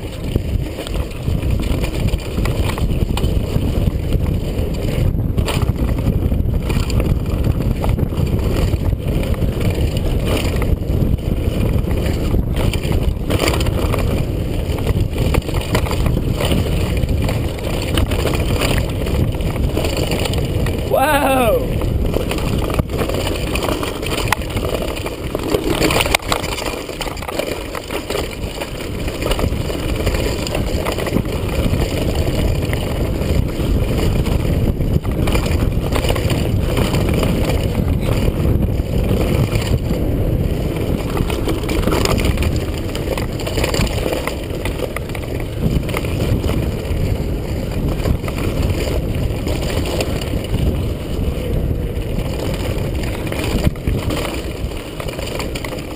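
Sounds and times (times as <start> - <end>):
mountain bike clattering: 0.0 - 20.9, 21.8 - 55.9
wind rushing over camera: 0.0 - 55.9.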